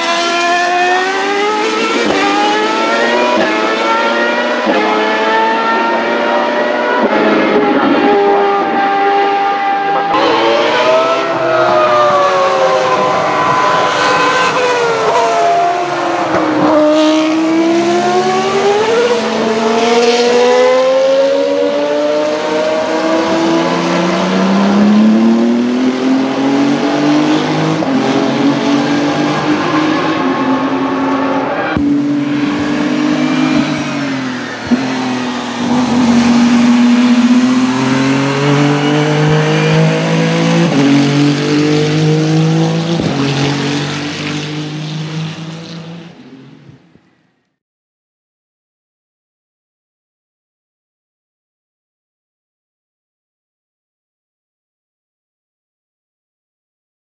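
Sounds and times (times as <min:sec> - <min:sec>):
racing car engine revving: 0:00.0 - 0:46.6.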